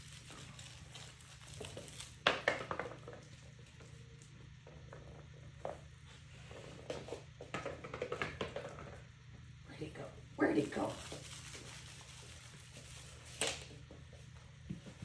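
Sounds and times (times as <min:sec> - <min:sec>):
puppy paws tapping on vinyl floor: 0:00.0 - 0:09.4, 0:10.6 - 0:15.0
steady low hum: 0:00.0 - 0:15.0.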